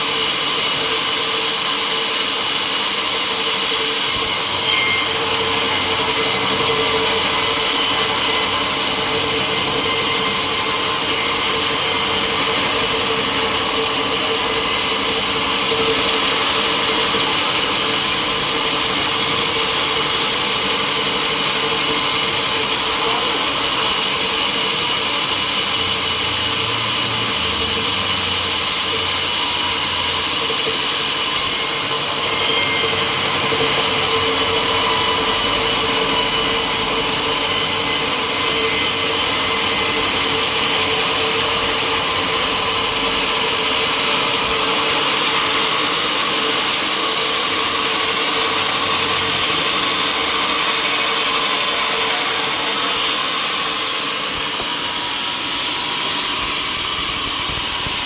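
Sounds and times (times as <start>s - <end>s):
saw cutting through wood: 0.0s - 58.0s.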